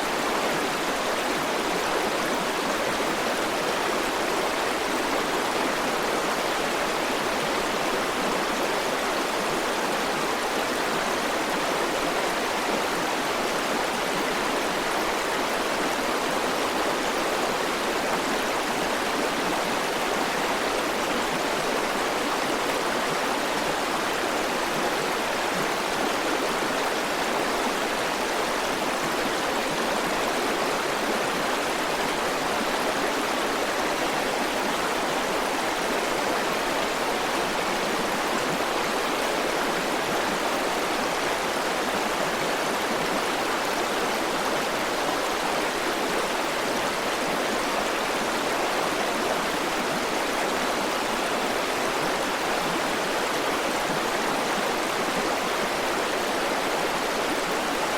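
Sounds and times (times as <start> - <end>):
river flowing over stones: 0.0 - 57.9.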